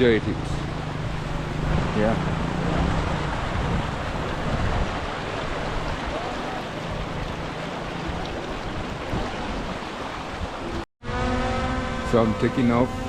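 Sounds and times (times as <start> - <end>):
waterfall rushing: 0.0 - 10.8.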